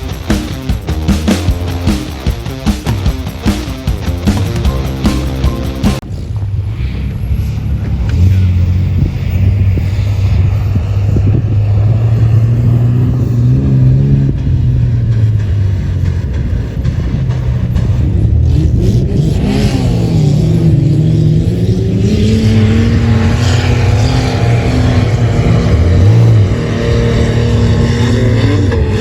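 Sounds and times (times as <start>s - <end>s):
engine running with low drone: 0.0s - 29.0s.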